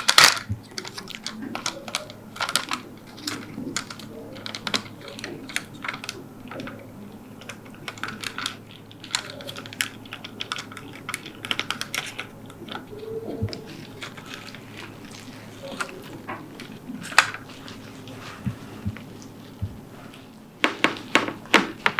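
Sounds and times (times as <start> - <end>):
typewriter keys clacking: 0.0 - 17.8.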